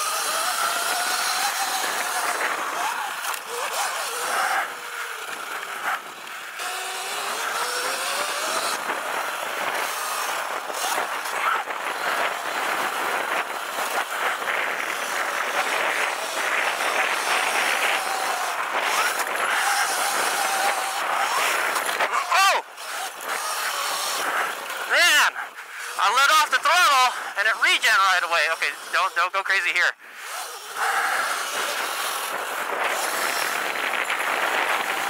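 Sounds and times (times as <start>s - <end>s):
electric motor whine: 0.0s - 29.4s, 30.0s - 35.0s
steady rushing noise: 0.0s - 35.0s.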